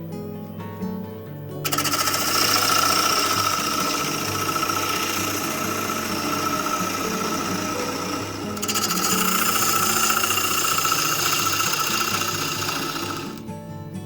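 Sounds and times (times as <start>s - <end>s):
lathe tool rasping on wood: 1.6s - 13.4s.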